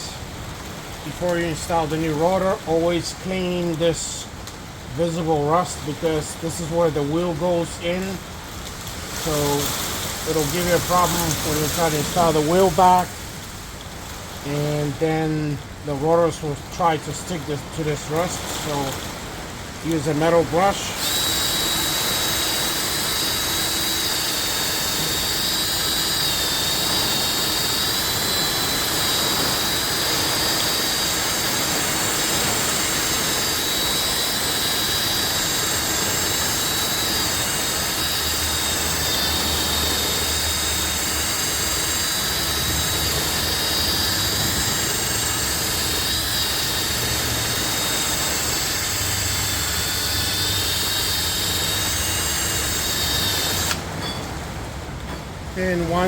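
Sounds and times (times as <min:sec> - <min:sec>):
wire brush power tool whining: 0:00.0 - 0:04.3, 0:05.0 - 0:13.3, 0:14.4 - 0:54.4.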